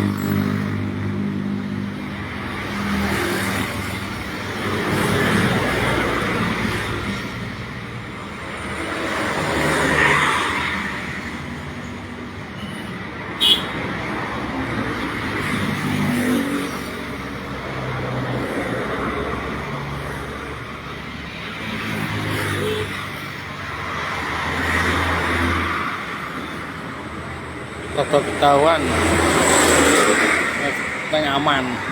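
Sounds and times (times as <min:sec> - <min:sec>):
vehicles passing: 0:00.0 - 0:31.9.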